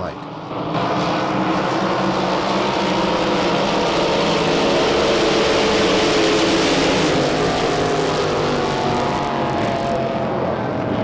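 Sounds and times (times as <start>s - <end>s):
racing boat engine: 0.0s - 11.0s.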